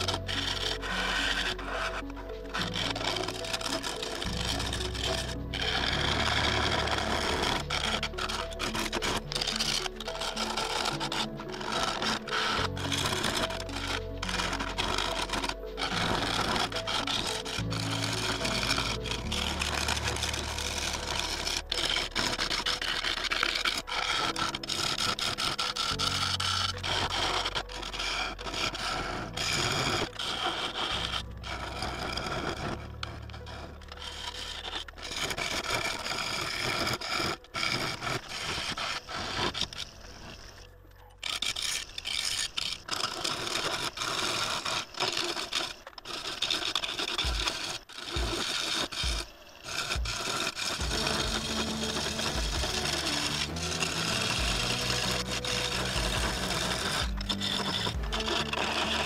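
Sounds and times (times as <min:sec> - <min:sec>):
lathe motor humming: 0:00.0 - 0:45.4, 0:46.2 - 0:59.0
turning tool scraping wood: 0:00.0 - 0:59.0.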